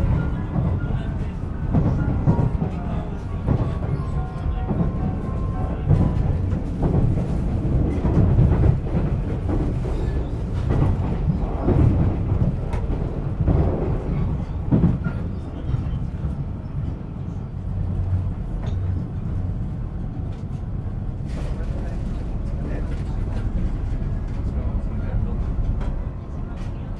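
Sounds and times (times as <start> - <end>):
train wheels rumbling: 0.0 - 26.9.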